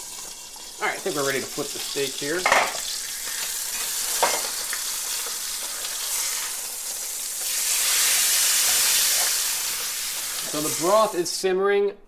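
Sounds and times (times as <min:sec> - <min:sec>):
steak sizzling in a pan: 0:00.0 - 0:11.2.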